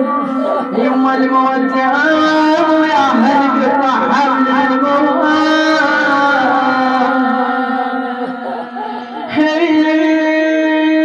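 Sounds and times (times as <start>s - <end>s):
woman chanting a lament: 0.0s - 11.0s.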